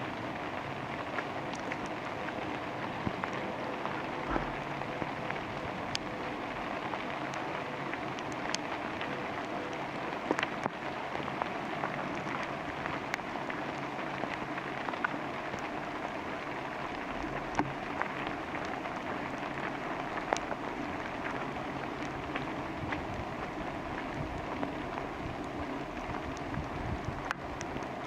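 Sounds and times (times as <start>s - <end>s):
steady rain in forest: 0.0s - 28.0s.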